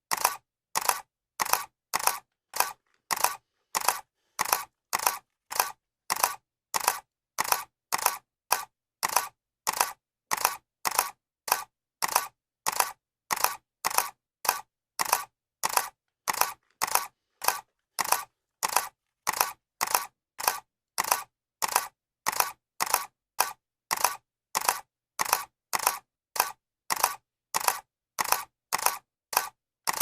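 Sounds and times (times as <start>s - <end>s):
camera shutter clicks: 0.1s - 30.0s.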